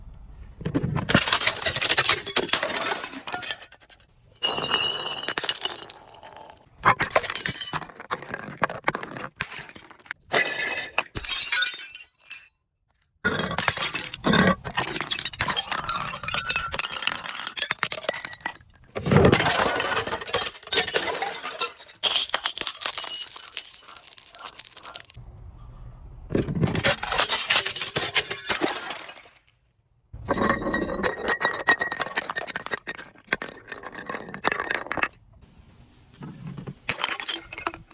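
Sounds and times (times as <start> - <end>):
glass bottles crunching: 1.0 - 12.5, 13.3 - 25.2, 26.5 - 29.6, 30.2 - 35.1, 36.1 - 37.9.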